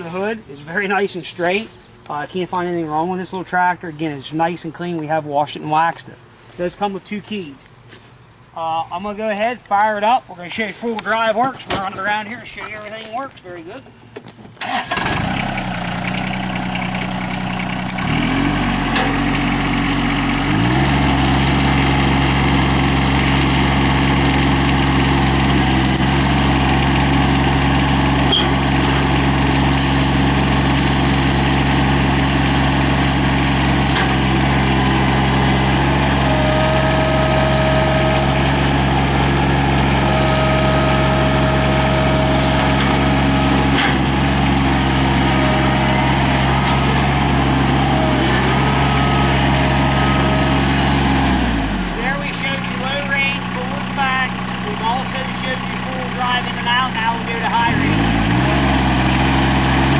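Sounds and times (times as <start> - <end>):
diesel tractor engine idling: 0.0 - 59.9.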